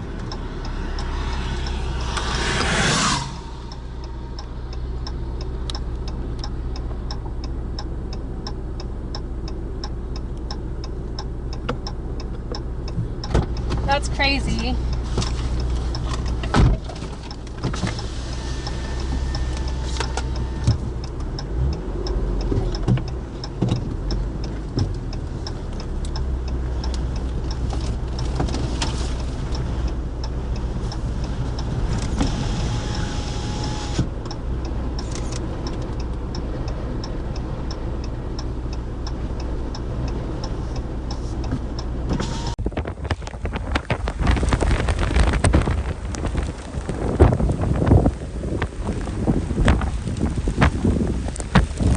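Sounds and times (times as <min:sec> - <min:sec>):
light regular ticking: 0:00.0 - 0:51.9
vehicle engine rumbling: 0:00.0 - 0:51.9.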